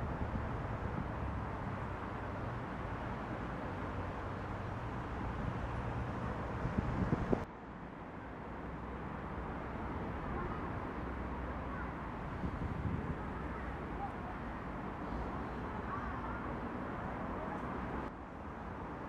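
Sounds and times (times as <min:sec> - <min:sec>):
low hum of distant traffic: 0:00.0 - 0:19.0.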